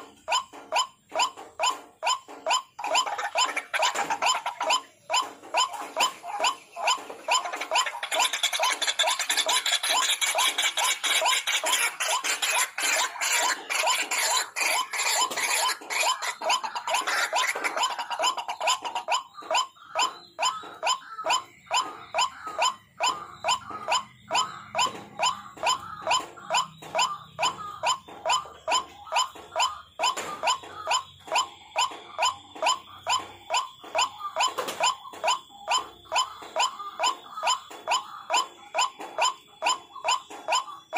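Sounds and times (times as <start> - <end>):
waterhen croaking calls: 0.0 - 40.9.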